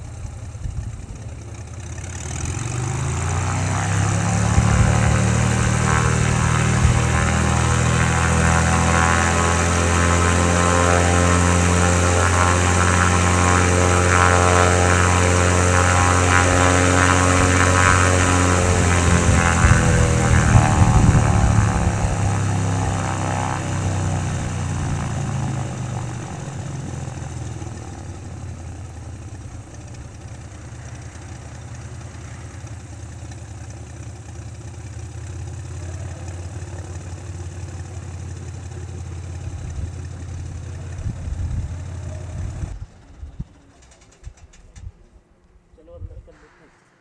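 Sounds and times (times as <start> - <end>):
light aircraft engine idling: 0.0 - 46.8.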